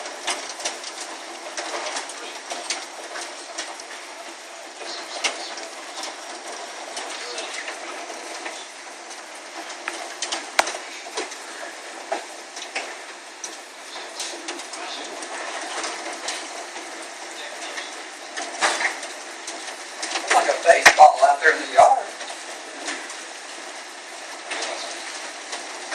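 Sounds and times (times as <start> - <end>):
hail hissing down: 0.0 - 25.9
hailstones cracking on hard surfaces: 0.0 - 25.9.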